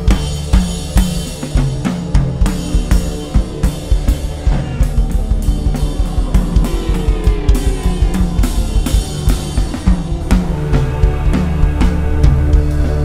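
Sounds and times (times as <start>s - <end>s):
background music: 0.0s - 13.0s
drum kit steady beat: 0.0s - 13.0s.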